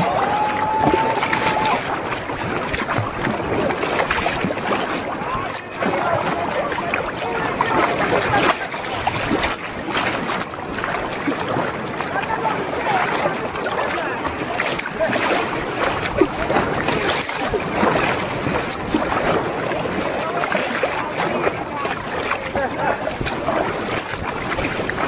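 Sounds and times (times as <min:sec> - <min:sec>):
water splashing against kayak: 0:00.0 - 0:25.0
wind buffeting microphone: 0:00.0 - 0:25.0.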